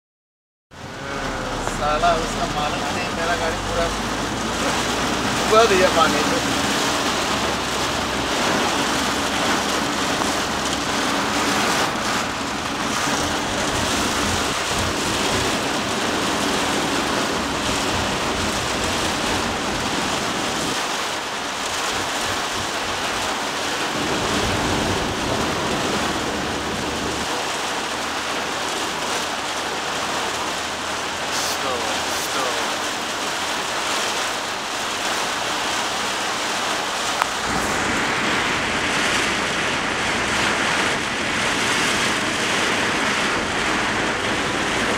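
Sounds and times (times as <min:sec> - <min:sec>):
heavy rain on vehicle roof: 0:00.7 - 0:44.9.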